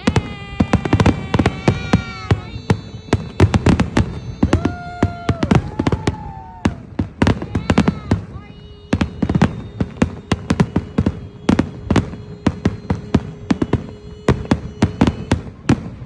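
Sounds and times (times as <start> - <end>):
firework bangs and crackles: 0.0 - 16.0
long pitched tones: 0.0 - 16.0.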